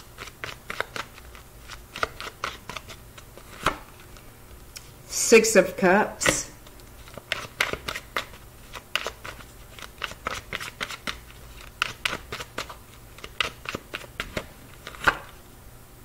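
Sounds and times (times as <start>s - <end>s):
cards being shuffled: 0.0s - 4.6s, 6.2s - 15.4s.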